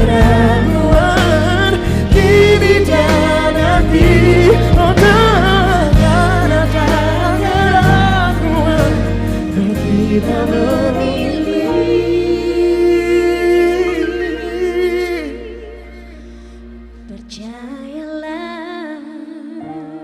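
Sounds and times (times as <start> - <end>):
band playing pop ballad: 0.0 - 18.7
person singing with vibrato: 0.0 - 20.0.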